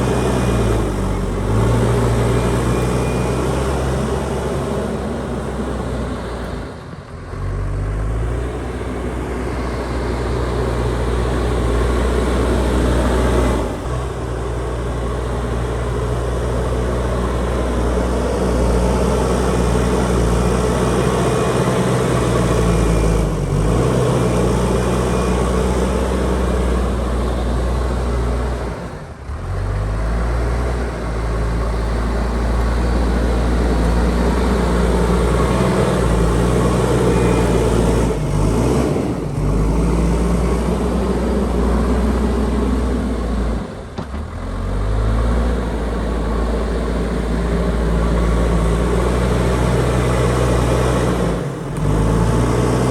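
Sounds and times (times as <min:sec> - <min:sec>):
backhoe diesel engine running: 0:00.0 - 0:52.9.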